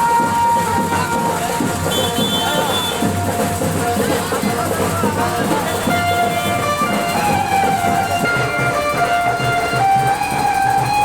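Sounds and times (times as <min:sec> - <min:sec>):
music over loudspeakers: 0:00.0 - 0:11.0.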